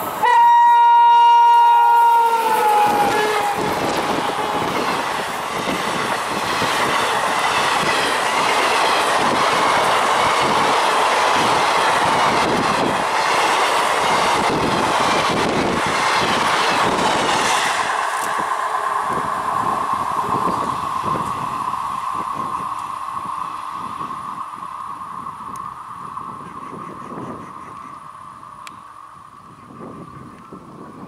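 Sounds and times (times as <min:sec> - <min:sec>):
train rushing past: 0:00.0 - 0:31.0.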